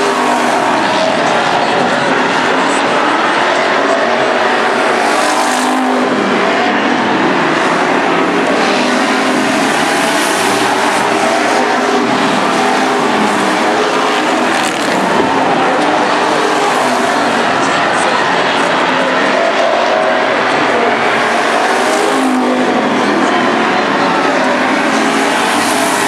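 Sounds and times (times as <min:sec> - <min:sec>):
race car engines revving: 0:00.0 - 0:26.0.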